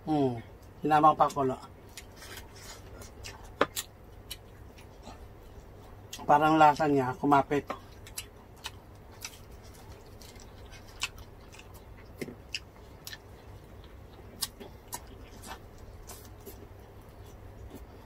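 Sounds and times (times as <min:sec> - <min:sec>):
steady low hum: 0:00.0 - 0:18.0
crunching pork crackling: 0:00.6 - 0:18.0.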